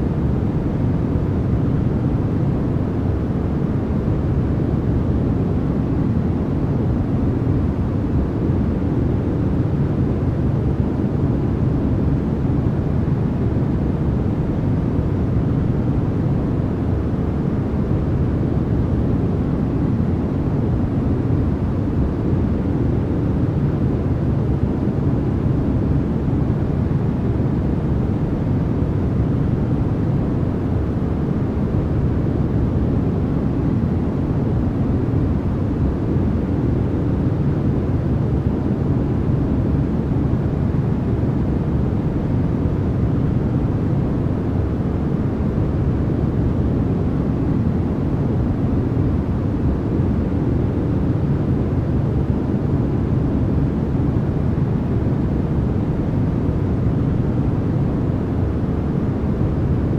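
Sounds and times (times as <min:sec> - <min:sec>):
low rumbling white noise: 0:00.0 - 0:59.9.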